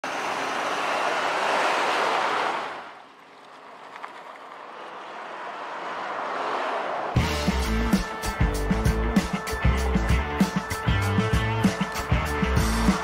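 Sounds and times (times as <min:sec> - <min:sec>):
trucks passing by: 0:00.0 - 0:13.0.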